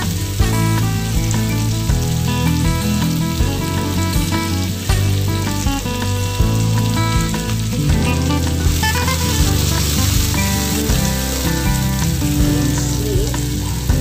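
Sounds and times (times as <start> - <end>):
background music with steady beat: 0.0 - 14.0
onions sizzling in a wok: 0.0 - 14.0.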